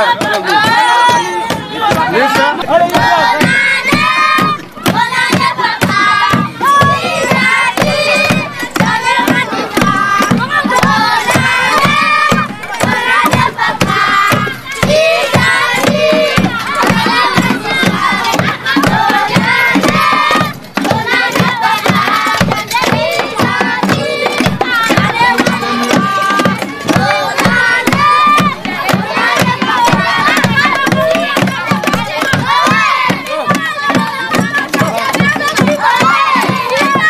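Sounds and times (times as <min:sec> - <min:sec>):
children singing and chanting: 0:00.0 - 0:37.0
steady beat: 0:00.0 - 0:37.0.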